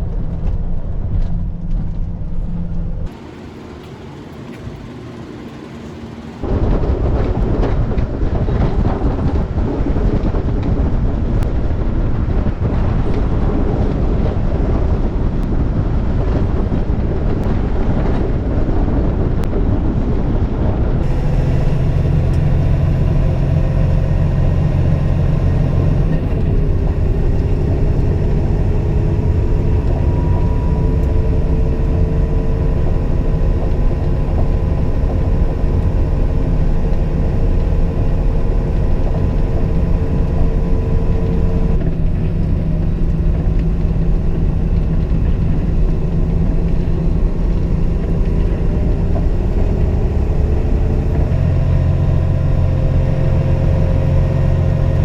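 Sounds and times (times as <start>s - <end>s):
diesel engine droning: 0.0s - 55.0s
heavy road rumble: 0.0s - 55.0s.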